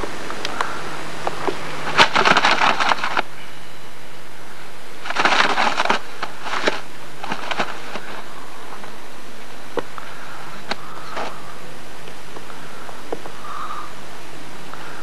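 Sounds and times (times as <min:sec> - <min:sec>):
tape hiss: 0:00.0 - 0:15.0
crackling scraping rustle: 0:00.4 - 0:03.6, 0:04.5 - 0:13.9.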